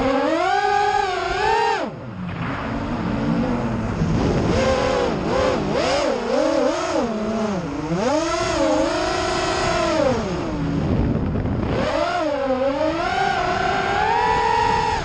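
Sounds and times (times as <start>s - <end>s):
quadcopter motors whining: 0.0s - 2.0s, 4.2s - 15.0s.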